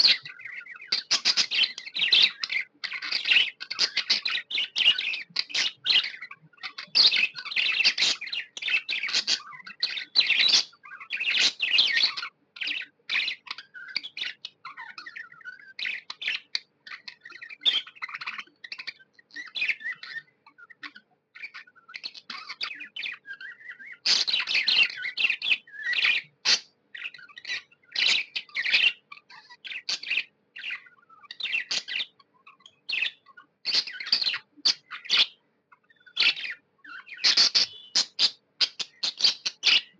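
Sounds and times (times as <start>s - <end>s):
budgerigar chirping: 0.0s - 39.9s.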